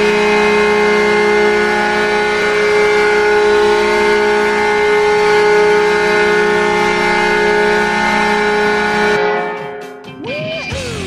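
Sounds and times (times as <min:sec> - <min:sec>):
air horn chord: 0:00.0 - 0:11.0.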